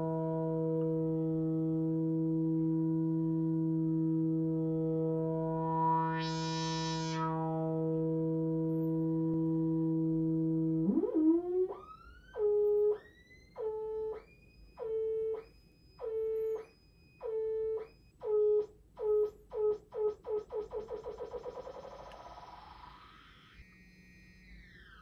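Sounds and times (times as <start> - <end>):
buzzy synthesizer drone: 0.0 - 25.0
synthesizer pulsed swooping tones: 3.5 - 18.4, 19.0 - 25.0.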